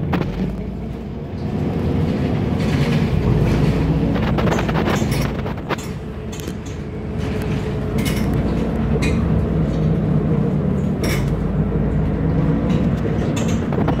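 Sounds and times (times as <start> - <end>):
vehicle interior hum: 0.0 - 14.0.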